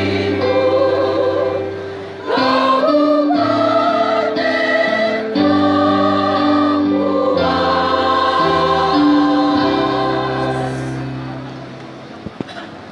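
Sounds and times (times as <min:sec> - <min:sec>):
choir singing a hymn: 0:00.0 - 0:11.7.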